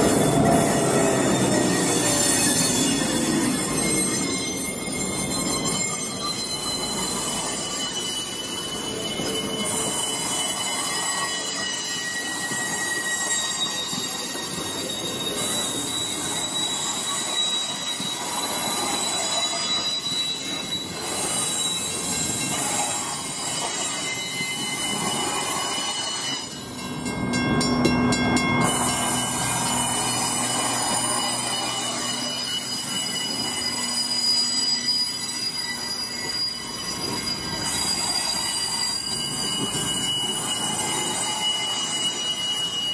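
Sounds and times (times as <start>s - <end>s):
rumble of train wheels: 0.0s - 42.9s
train wheels squealing on rails: 0.0s - 42.9s.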